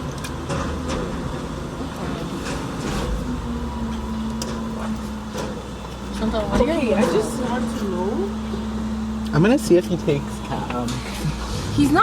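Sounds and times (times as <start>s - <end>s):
car interior low drone: 0.0s - 12.0s.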